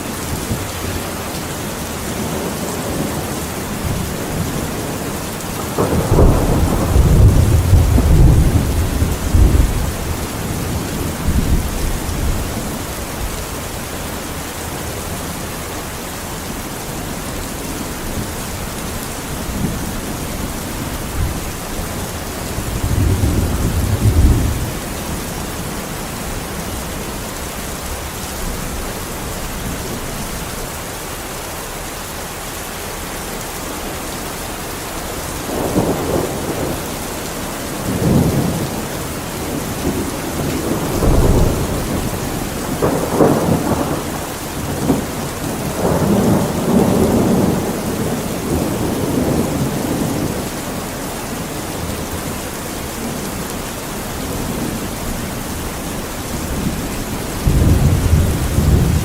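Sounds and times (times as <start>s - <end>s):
thunder rumbling: 0.0s - 16.0s, 16.8s - 30.6s, 35.4s - 59.0s
steady rain: 0.0s - 59.0s.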